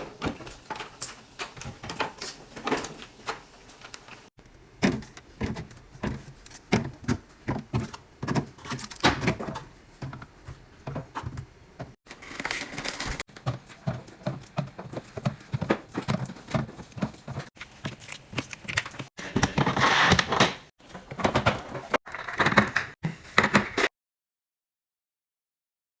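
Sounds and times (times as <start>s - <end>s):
fridge doors and drawers opening: 0.0s - 17.5s, 18.7s - 23.9s.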